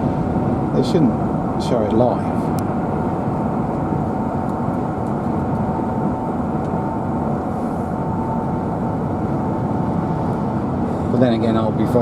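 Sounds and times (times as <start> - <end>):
car road and engine noise: 0.0 - 12.0
faint steady whine: 0.0 - 12.0.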